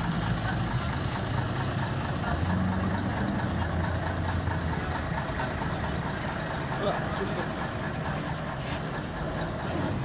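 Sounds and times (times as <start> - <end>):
fire truck engine rumbling: 0.0 - 10.0.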